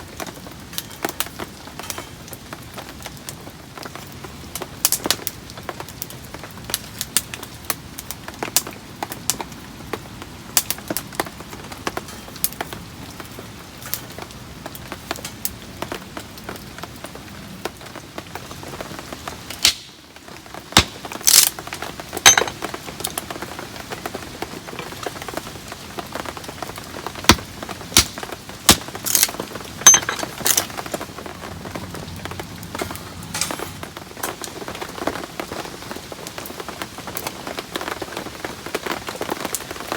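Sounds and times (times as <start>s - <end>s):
sharp taps of raindrops: 0.0s - 39.9s.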